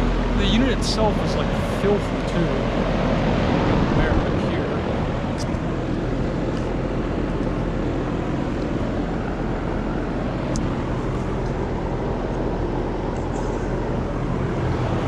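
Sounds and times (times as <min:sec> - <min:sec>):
compressor low hum: 0:00.0 - 0:15.0
condenser fan rushing: 0:00.0 - 0:15.0.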